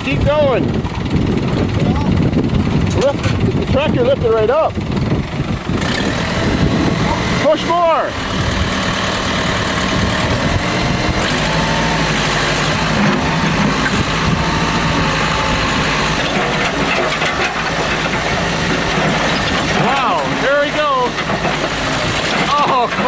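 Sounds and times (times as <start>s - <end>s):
backhoe engine running: 0.0s - 23.0s.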